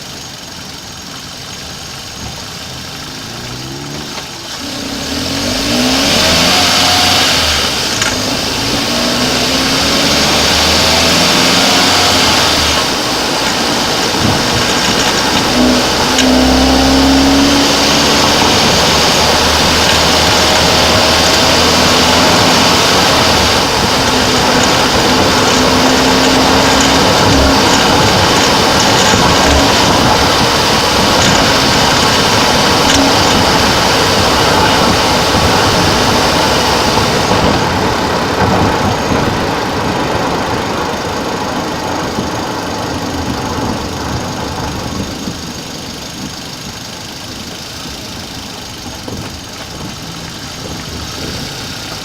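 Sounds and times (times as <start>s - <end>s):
car engine revving: 0.0s - 52.0s
steady rushing noise: 0.0s - 52.0s.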